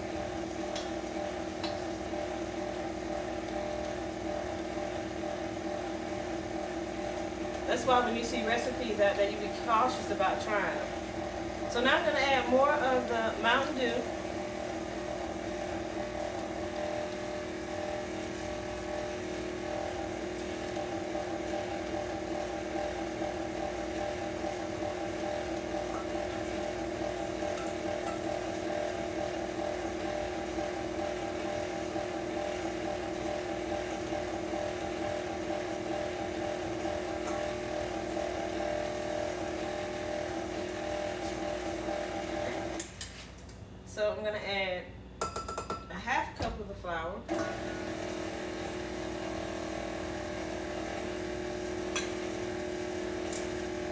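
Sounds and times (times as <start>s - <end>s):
stand mixer motor hum: 0.0s - 42.9s, 47.3s - 53.9s.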